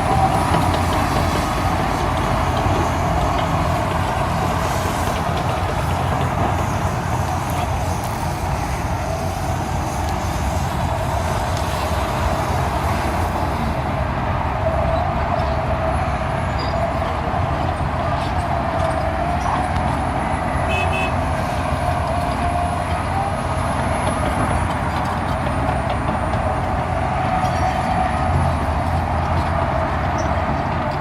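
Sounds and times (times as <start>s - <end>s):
heavy diesel equipment rumbling: 0.0s - 31.0s.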